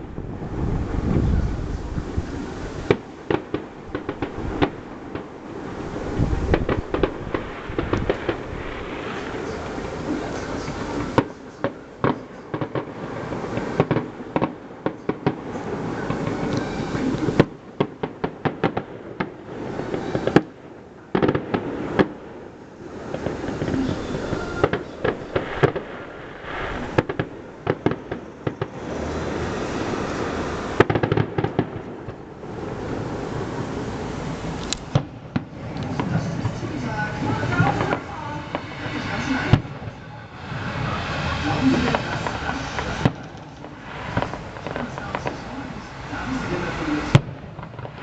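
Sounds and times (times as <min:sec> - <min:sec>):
fireworks bangs and pops: 0:00.0 - 0:48.0
fireworks crackling: 0:00.0 - 0:48.0.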